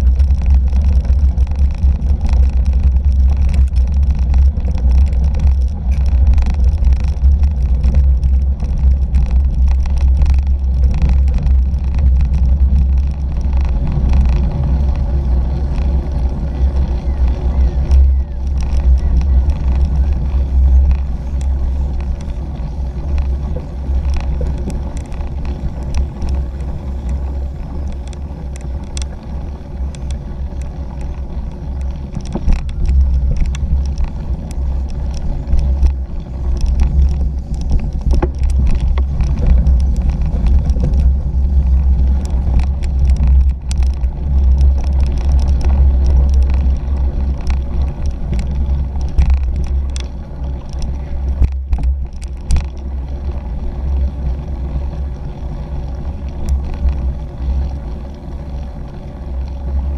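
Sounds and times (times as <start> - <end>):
bike rattling and knocking: 0.0 - 59.9
wind and tyre rumble: 0.0 - 59.9.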